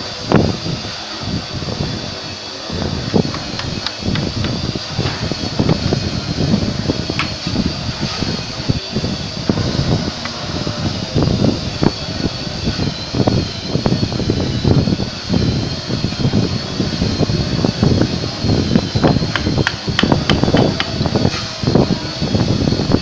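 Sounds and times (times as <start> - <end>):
steady high whine: 0.0 - 23.0.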